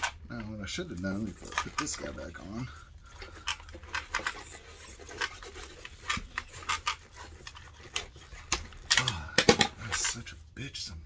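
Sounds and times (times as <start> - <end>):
parts and tools clicking: 0.0 - 10.2.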